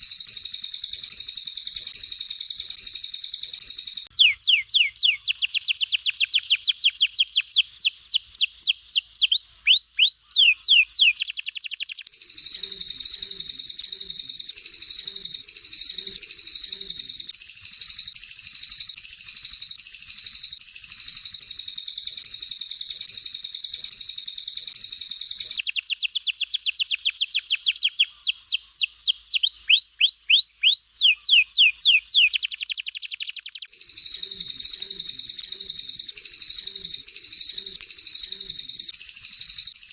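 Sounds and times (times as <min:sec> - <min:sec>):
falling whistled bird notes: 0:00.0 - 0:19.9, 0:24.7 - 0:39.9
high buzzing bird trill: 0:00.0 - 0:39.9.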